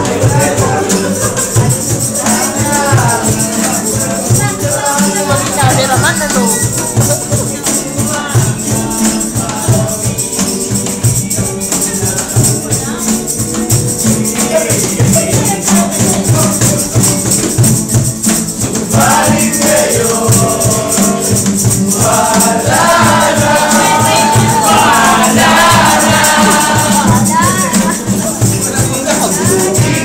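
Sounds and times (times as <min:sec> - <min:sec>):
acoustic guitars strummed: 0:00.0 - 0:30.0
cajon thumping beat: 0:00.0 - 0:30.0
voices singing along: 0:00.0 - 0:30.0.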